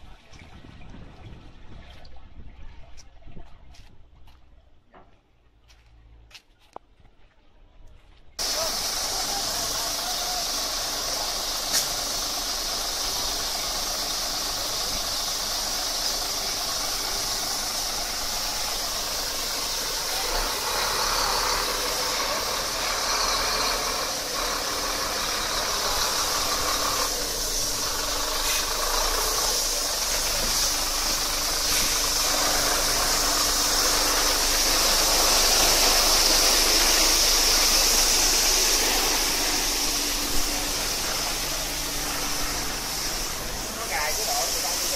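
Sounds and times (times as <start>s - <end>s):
spray nozzles jetting water: 8.4s - 44.9s
truck engine running: 8.4s - 44.9s.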